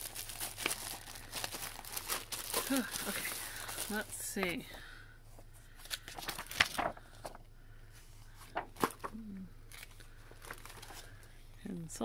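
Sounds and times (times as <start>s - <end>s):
paper pages rustling: 0.0s - 7.4s, 8.2s - 11.3s.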